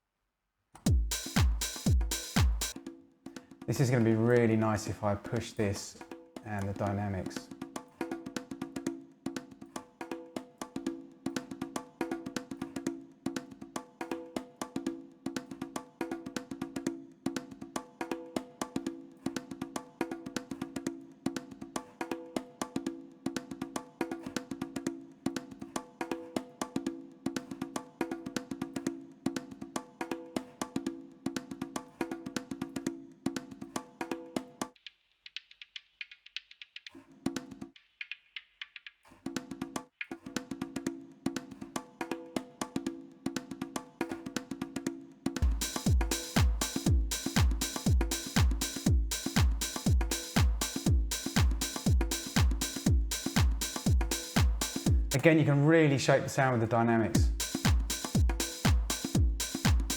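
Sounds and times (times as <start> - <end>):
congas playing fast rhythm: 0.9 - 59.9.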